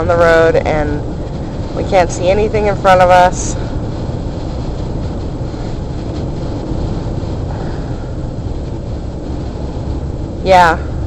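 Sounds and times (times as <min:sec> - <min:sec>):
car road noise: 0:00.0 - 0:11.0.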